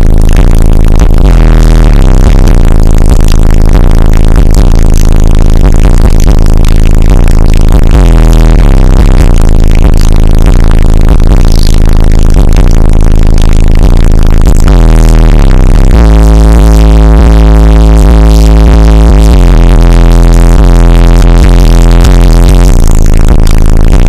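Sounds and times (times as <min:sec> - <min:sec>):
bass-heavy electronic music: 0:00.0 - 0:24.0.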